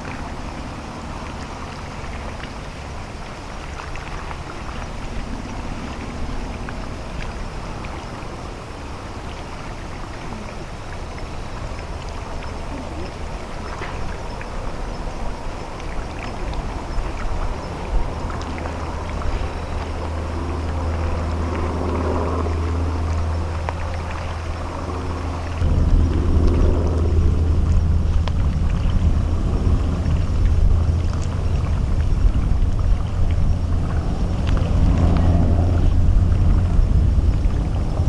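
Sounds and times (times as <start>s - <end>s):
ship engine low rumble: 0.0s - 38.0s.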